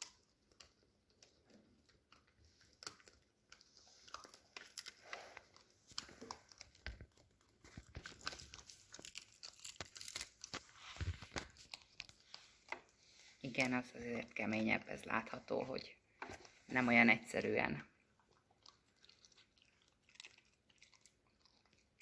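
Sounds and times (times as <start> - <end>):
dog chewing and crunching: 0.0 - 15.9, 16.8 - 22.0.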